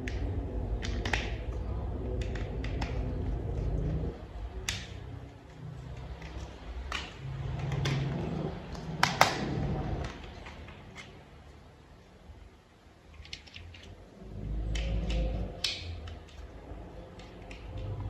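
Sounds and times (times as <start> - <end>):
plastic parts clicking and snapping: 0.0 - 11.3, 13.0 - 18.0.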